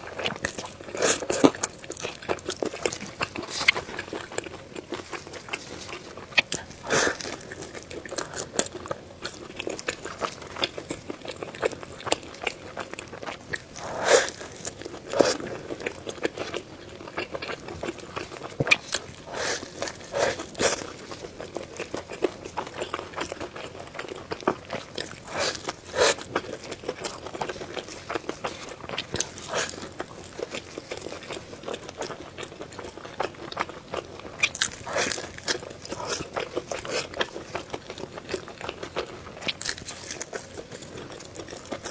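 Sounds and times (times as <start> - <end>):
person biting and chewing food: 0.0 - 41.9.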